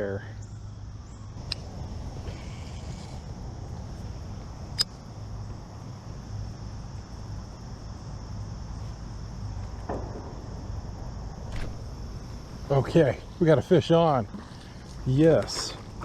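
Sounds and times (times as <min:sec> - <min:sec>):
low steady rumble: 0:00.0 - 0:15.1
crickets trilling: 0:00.0 - 0:16.0.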